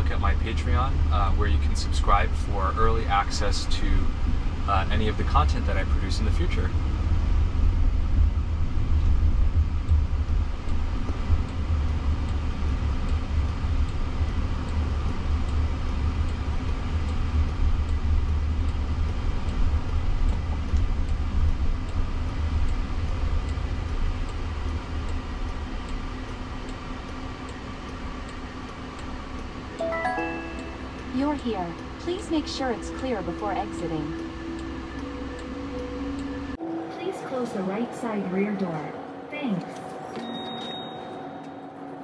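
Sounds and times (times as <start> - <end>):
road and tyre rumble inside car: 0.0 - 29.8, 31.0 - 40.9.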